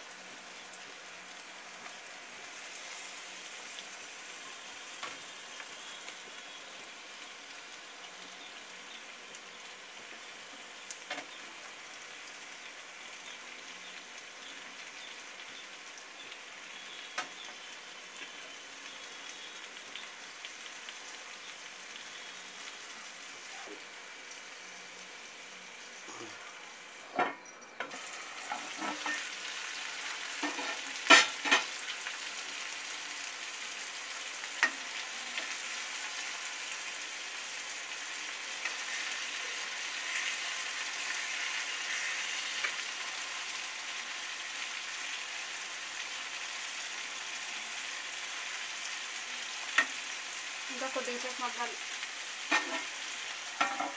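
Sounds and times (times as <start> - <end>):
fish sizzling in oil: 0.0 - 27.0, 27.9 - 53.9.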